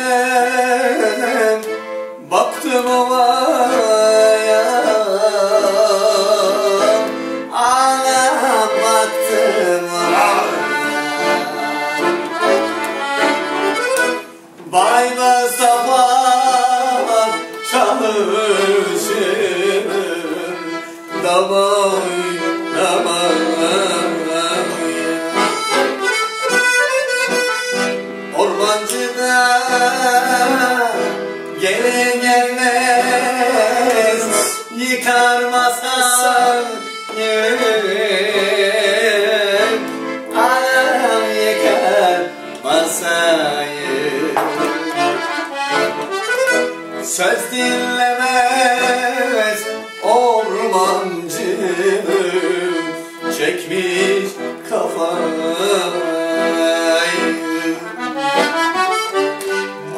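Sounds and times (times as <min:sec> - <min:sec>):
accordion folk melody: 0:00.0 - 0:59.9.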